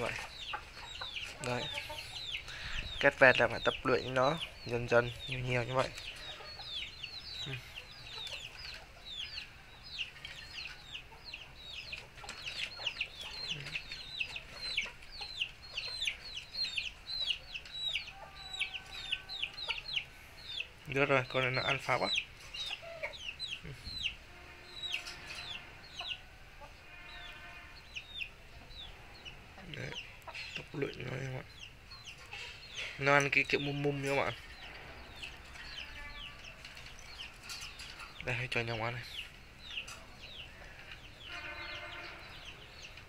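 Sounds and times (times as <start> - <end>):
chicks peeping: 0.0 - 43.0
hen calling: 0.0 - 43.0.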